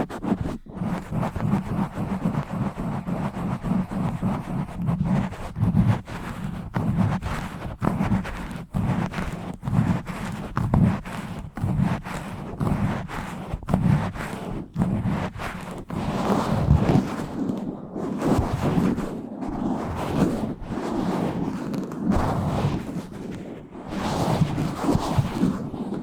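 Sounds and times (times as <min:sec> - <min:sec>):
fingers scratching on microphone: 0:00.0 - 0:26.0.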